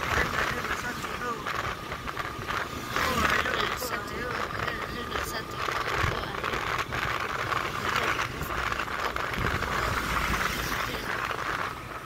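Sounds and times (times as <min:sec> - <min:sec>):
motorcycle engine and road rumble: 0:00.0 - 0:12.0
wind rushing over microphone: 0:00.0 - 0:12.0.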